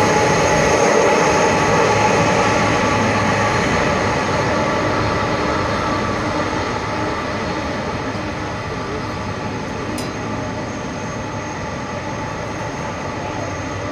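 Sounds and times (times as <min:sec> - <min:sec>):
jet engines at taxi power: 0:00.0 - 0:13.9.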